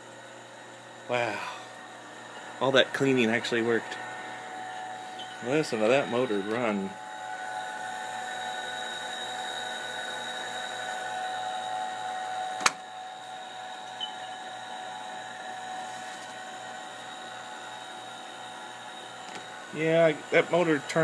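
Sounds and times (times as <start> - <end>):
floppy drive motor whine: 0.0 - 21.0.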